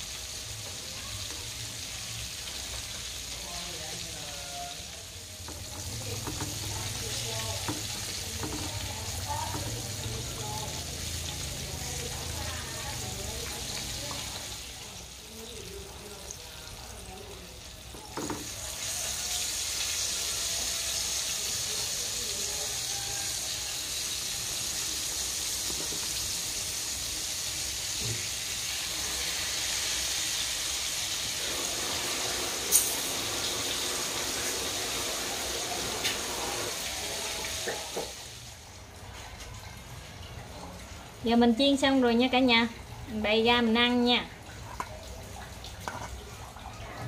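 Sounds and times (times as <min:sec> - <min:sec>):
chicken deep-frying in oil: 0:00.0 - 0:47.0.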